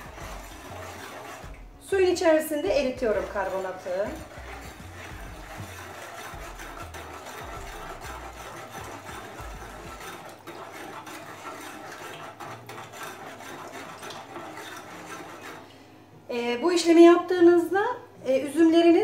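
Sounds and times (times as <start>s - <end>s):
fingers rubbing bowl bottom: 0.0s - 15.7s
water swishing in a plastic bowl: 0.0s - 15.8s.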